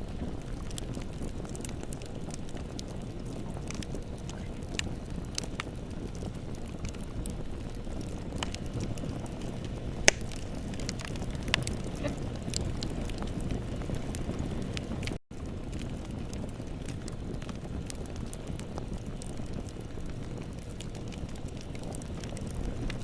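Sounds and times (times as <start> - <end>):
bonfire burning low rumble: 0.0 - 23.0
burning wood crackling and popping: 0.0 - 23.0.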